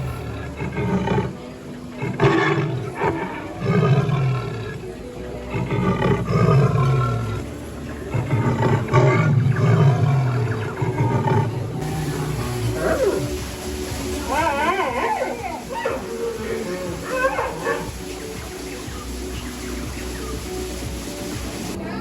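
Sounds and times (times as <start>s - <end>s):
recorded animal roars: 0.0s - 19.4s.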